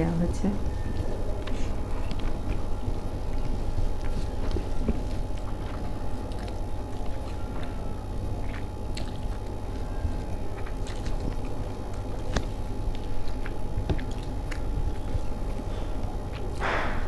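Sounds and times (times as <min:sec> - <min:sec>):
steady low hum: 0:00.0 - 0:17.0
person chewing: 0:00.6 - 0:17.0.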